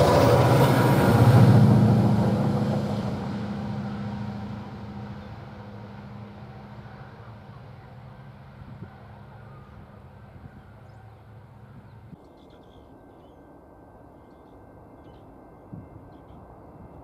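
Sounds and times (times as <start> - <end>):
low engine drone: 0.0 - 16.9.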